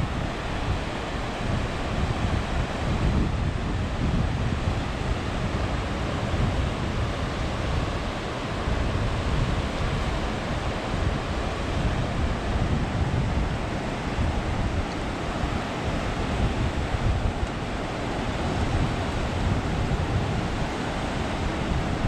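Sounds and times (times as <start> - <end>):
ocean surf on beach: 0.0 - 22.0
wind buffeting microphone: 0.0 - 22.0.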